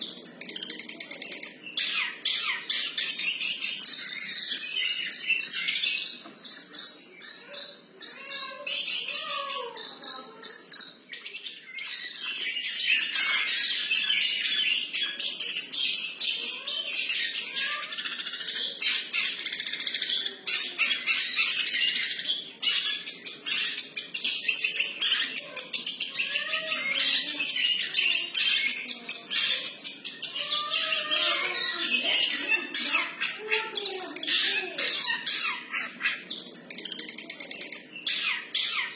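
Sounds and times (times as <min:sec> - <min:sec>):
bird singing rapid chattering notes: 0:00.0 - 0:38.9.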